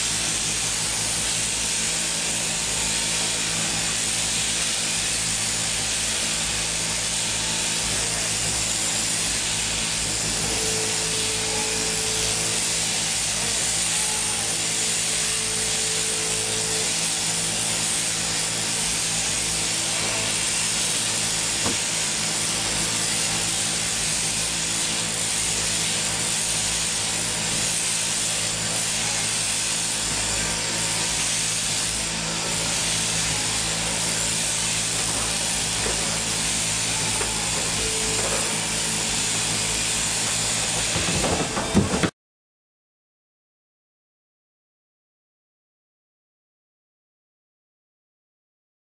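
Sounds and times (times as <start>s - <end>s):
shearing handpiece buzzing: 0.0s - 42.0s.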